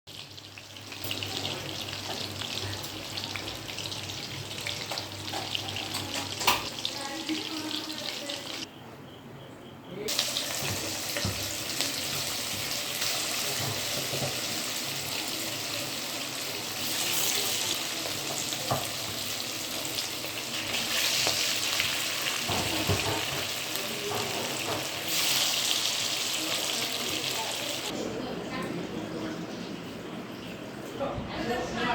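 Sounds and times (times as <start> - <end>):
food deep-frying in hot oil: 0.1 - 8.7, 10.1 - 27.9.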